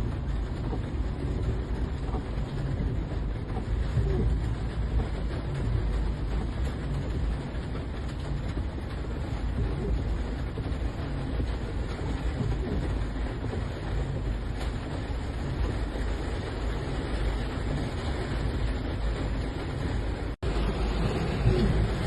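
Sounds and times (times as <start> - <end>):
deep low rumble: 0.0 - 22.0
heavy rain pouring: 0.0 - 22.0.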